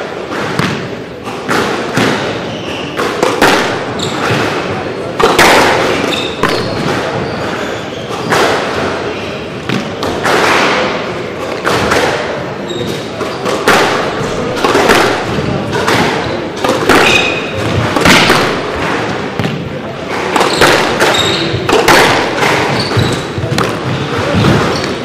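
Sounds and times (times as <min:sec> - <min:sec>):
squash ball thuds echoing: 0:00.0 - 0:25.0.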